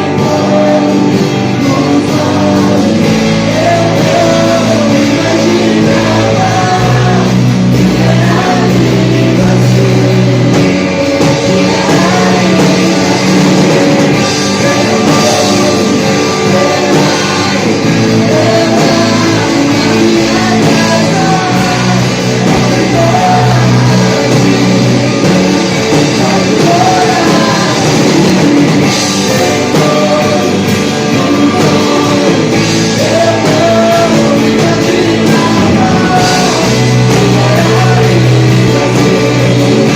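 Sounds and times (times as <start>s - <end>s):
rock worship music with singing: 0.0s - 39.9s.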